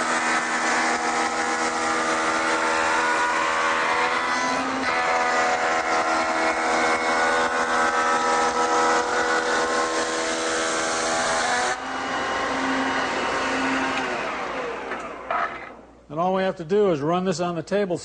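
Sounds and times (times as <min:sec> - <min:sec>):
motor winding down: 0:00.0 - 0:15.8
shaper cutting wood whine: 0:00.0 - 0:15.9.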